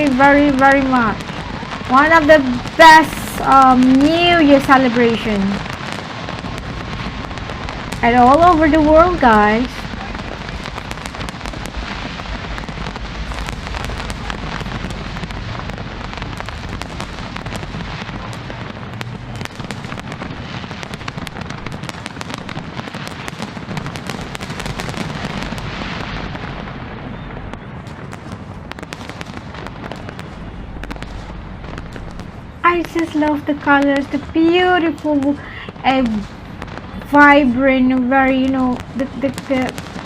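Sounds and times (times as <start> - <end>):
fireworks crackling and popping: 0.0 - 40.0
low rumble of bursting shells: 0.0 - 40.0.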